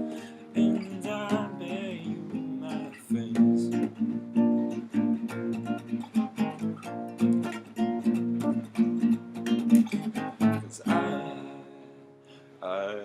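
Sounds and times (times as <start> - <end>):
acoustic guitar strumming: 0.0 - 12.6.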